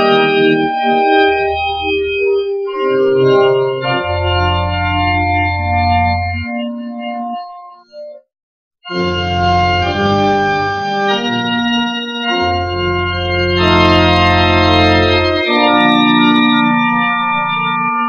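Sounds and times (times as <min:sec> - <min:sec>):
church organ playing chords: 0:00.0 - 0:08.2, 0:08.8 - 0:18.0
deep organ pedal bass notes: 0:00.0 - 0:08.2, 0:08.9 - 0:18.0.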